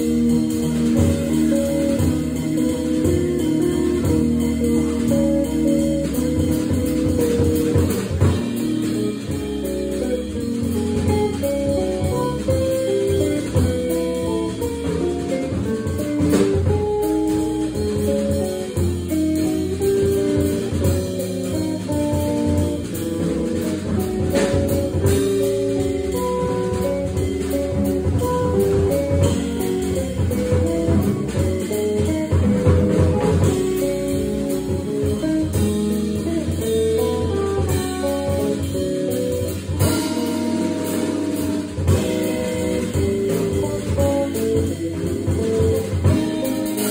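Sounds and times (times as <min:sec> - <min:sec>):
drum kit: 0:00.0 - 0:46.9
electric guitar picking: 0:00.0 - 0:46.9
low bass line: 0:00.0 - 0:46.9.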